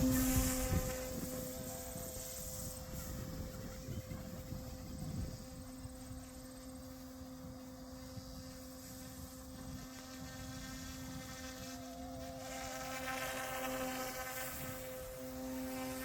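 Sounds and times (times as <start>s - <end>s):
rc helicopter buzzing whine: 0.0s - 16.0s.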